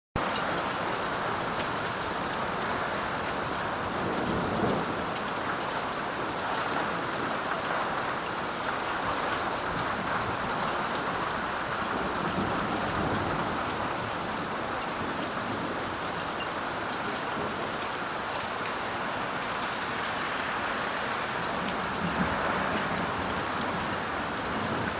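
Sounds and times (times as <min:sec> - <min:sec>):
heavy rain pouring: 0:00.2 - 0:24.9.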